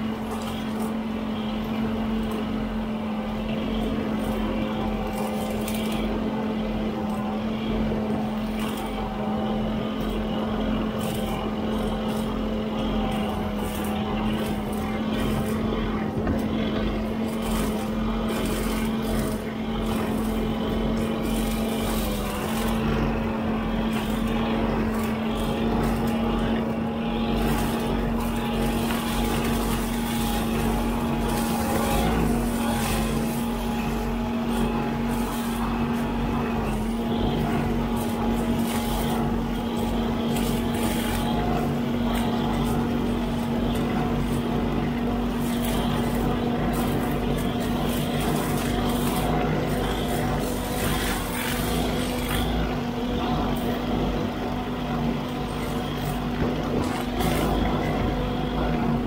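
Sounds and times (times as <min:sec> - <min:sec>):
backhoe loader engine running: 0:00.0 - 0:59.0
brush cutter droning: 0:00.0 - 0:59.0
brush snapping and rustling: 0:03.7 - 0:06.2, 0:08.3 - 0:54.2.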